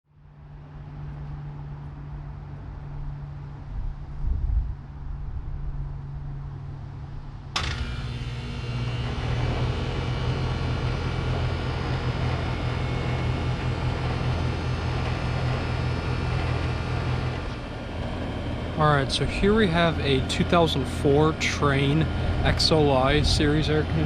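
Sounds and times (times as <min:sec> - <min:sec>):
faint low rumble: 0:00.1 - 0:24.0
air conditioner fan rushing air: 0:00.4 - 0:24.0
compressor low hum: 0:01.6 - 0:24.0.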